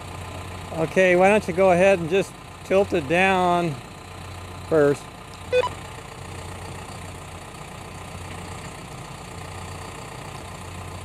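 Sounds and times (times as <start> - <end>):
tractor engine idling low: 0.0 - 11.0.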